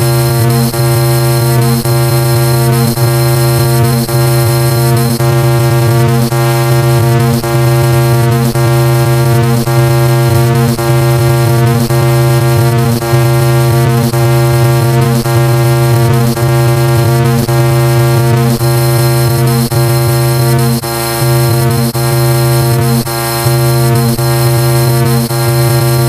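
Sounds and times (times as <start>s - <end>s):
layered car horn blare: 0.0s - 26.0s.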